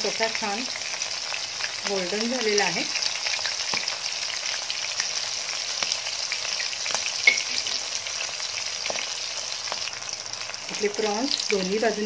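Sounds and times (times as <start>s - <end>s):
prawns deep-frying in oil: 0.0s - 12.0s.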